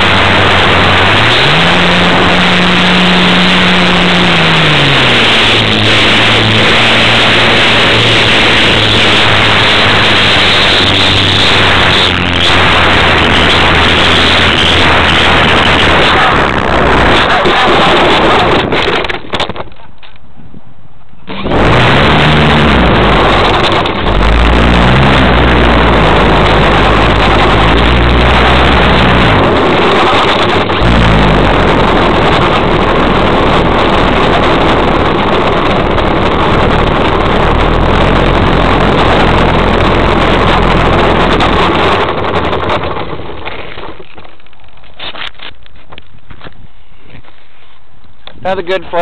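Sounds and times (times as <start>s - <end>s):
model airplane motor: 0.0s - 19.2s, 21.3s - 43.8s.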